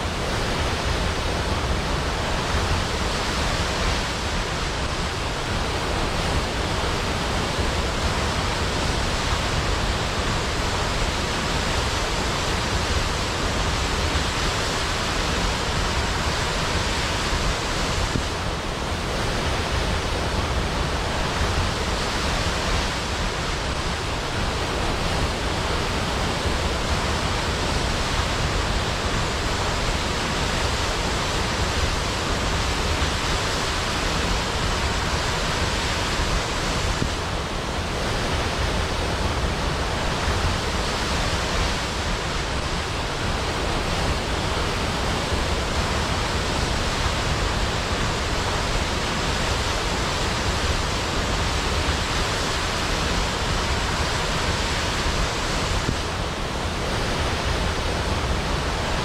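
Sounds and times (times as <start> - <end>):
waterfall roaring into pool: 0.0 - 59.0.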